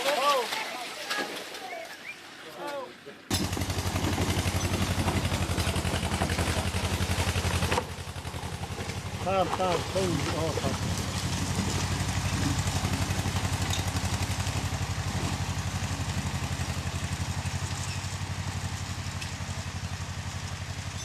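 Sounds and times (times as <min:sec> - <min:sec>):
engine idling: 0:03.3 - 0:21.0.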